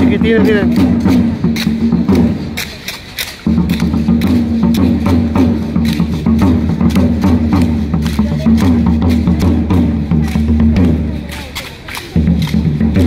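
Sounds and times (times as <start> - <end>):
large drum with wooden clacks: 0.0 - 13.0.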